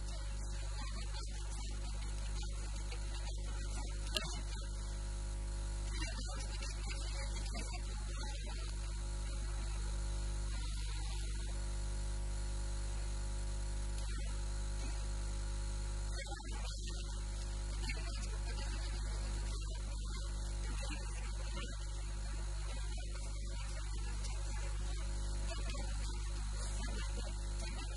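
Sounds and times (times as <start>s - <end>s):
electrical mains hum: 0.0s - 27.9s.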